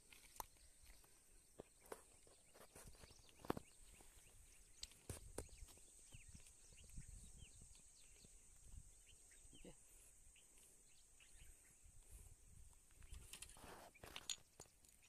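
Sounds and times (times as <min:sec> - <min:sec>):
small bird chirps: 0:00.2 - 0:11.8, 0:13.0 - 0:15.0.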